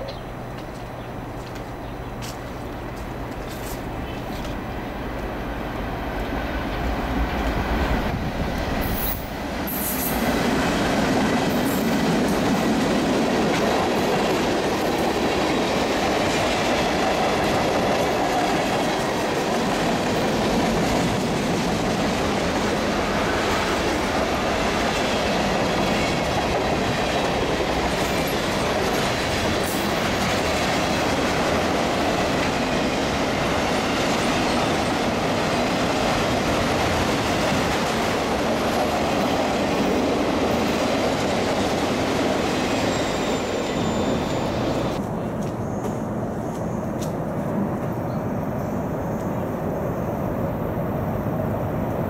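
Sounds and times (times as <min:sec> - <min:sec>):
diesel locomotives rumbling: 0:00.0 - 0:52.0
wheels clacking on rails: 0:06.1 - 0:48.1.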